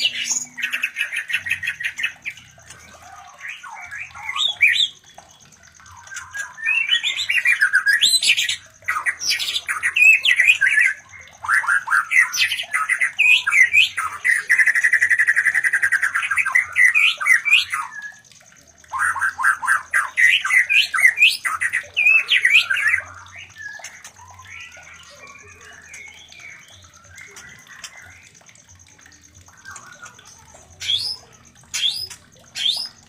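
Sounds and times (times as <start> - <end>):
bird rapid trill: 0.0 - 33.0
bird whistling and chattering: 0.0 - 33.0.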